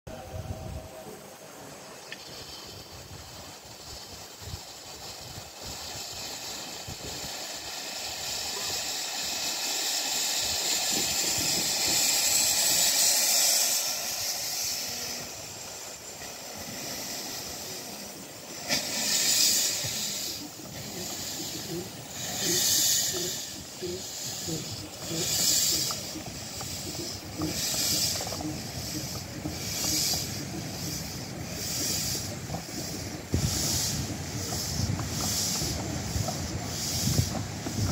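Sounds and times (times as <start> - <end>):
exhaust steam puffs: 0.1 - 37.9
steam locomotive hissing: 0.1 - 37.9.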